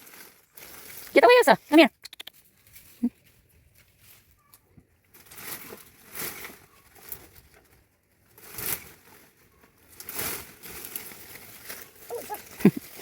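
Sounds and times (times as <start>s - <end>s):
branches rustling and snapping: 0.0s - 1.4s, 2.3s - 13.0s.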